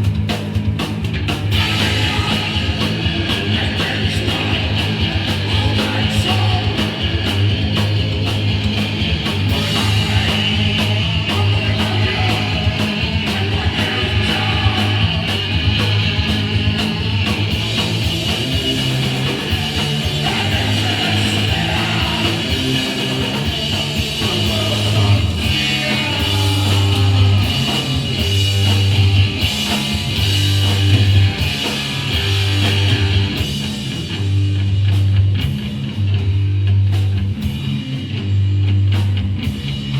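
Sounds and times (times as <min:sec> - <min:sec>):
bass guitar: 0:00.0 - 0:39.9
distorted electric guitar: 0:00.0 - 0:39.9
drum kit played rapidly: 0:00.0 - 0:39.9.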